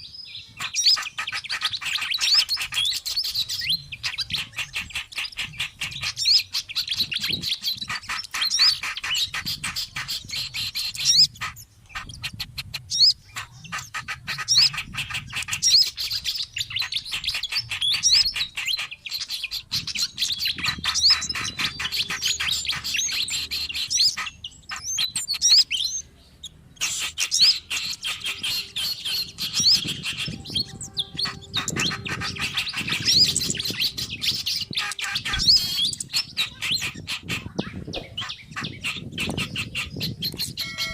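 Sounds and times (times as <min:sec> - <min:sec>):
songbirds chattering and whistling: 0:00.0 - 0:40.9.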